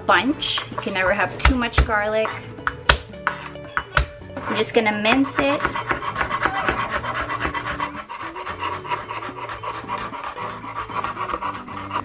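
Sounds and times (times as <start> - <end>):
knife chopping on cutting board: 0.6 - 10.2.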